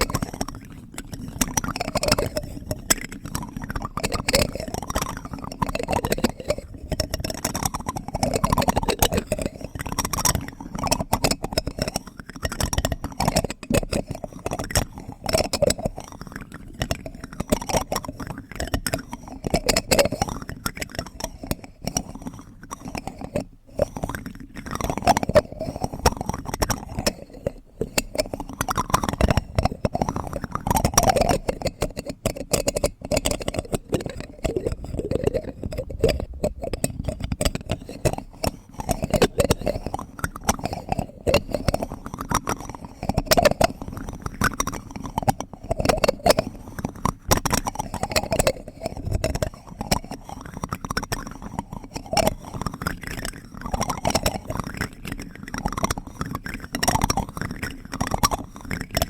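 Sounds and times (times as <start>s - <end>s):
plastic spoon clicks and scrapes: 0.0s - 59.0s
wet mouth sounds: 0.0s - 59.0s.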